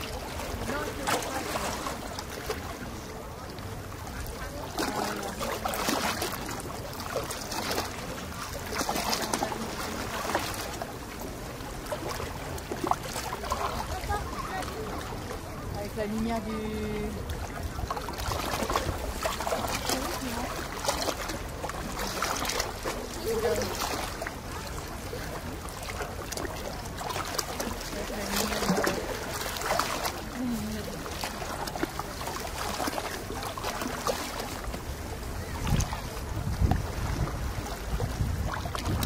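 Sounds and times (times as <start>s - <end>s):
faint voices: 0.0s - 38.5s
sea water lapping: 0.0s - 39.0s.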